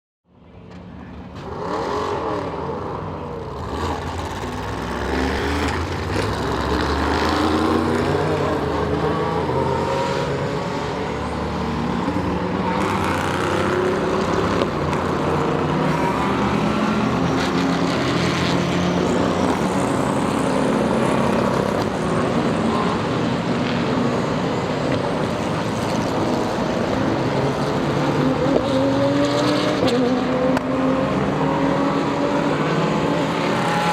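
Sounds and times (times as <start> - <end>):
race car engines at speed: 0.3 - 33.9.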